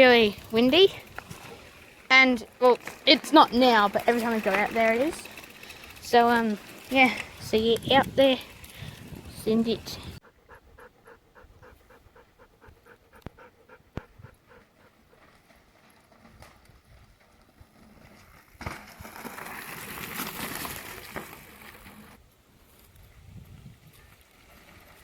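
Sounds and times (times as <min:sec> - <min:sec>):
wind rush and bike rolling: 0:00.0 - 0:10.2, 0:14.0 - 0:25.0.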